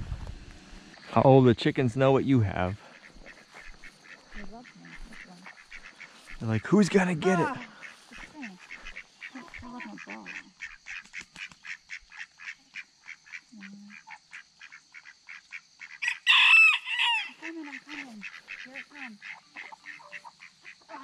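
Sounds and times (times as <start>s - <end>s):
ducks quacking: 2.6s - 21.0s.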